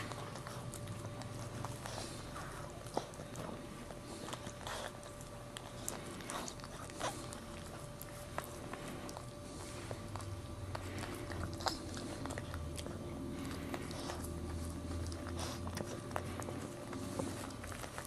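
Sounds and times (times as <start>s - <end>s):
dog licking and chewing: 0.0s - 18.0s.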